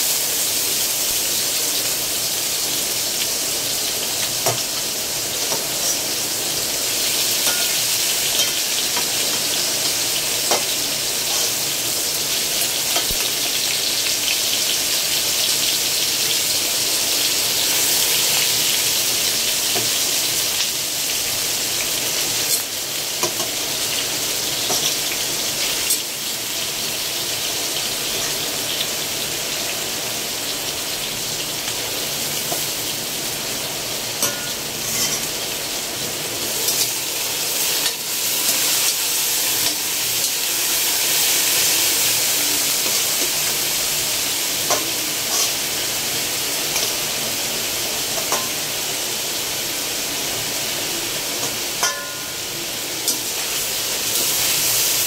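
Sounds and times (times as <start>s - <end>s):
chicken and onion sizzling in oil: 0.0s - 55.0s.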